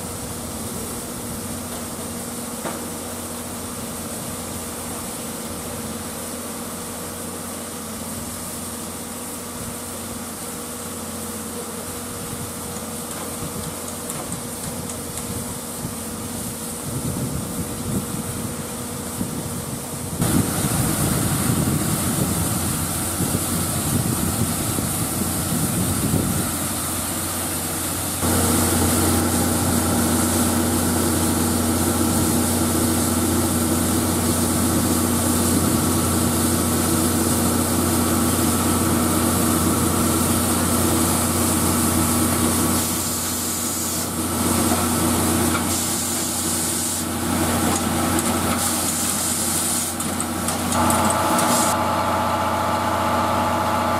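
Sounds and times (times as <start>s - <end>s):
steam hiss: 0.0s - 51.8s
constant mechanical hum: 0.0s - 53.9s.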